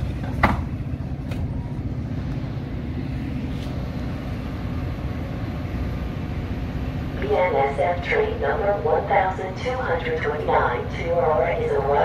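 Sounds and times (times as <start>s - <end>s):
diesel locomotive low rumble: 0.0s - 12.0s.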